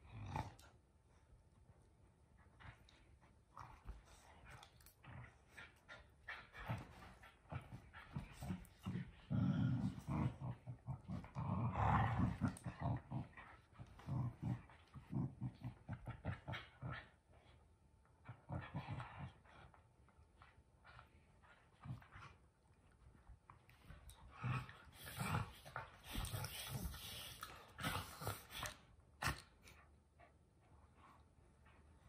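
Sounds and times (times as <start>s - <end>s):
dogs growling in play: 0.0s - 0.9s, 2.5s - 32.0s.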